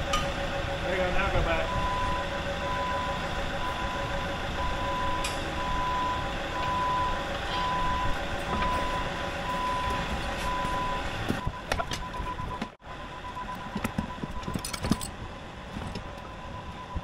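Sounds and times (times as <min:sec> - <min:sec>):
diesel engine rumbling: 0:00.0 - 0:17.0
backup alarm beeping: 0:00.2 - 0:17.0.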